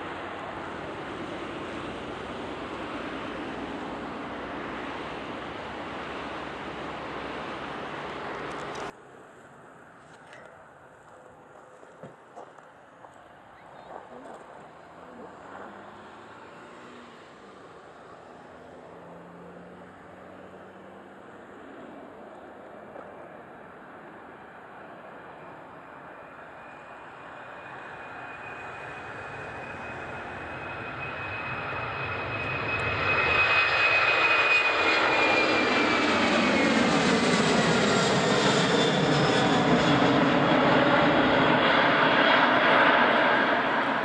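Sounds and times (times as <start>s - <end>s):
jet engines at takeoff power: 0.0s - 44.0s.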